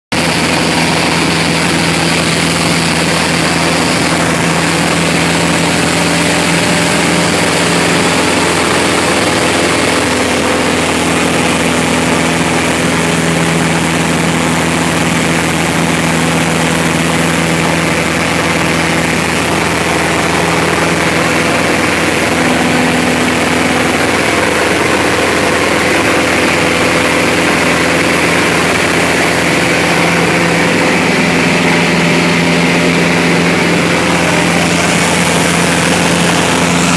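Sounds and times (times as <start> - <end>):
propeller plane engine drone: 0.1 - 36.9.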